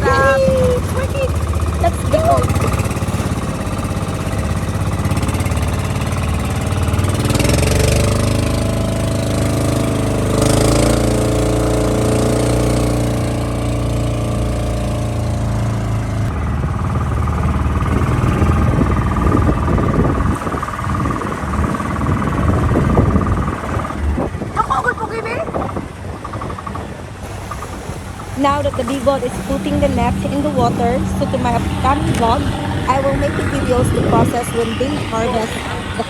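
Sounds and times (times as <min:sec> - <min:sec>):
boat motor running: 0:00.0 - 0:36.0.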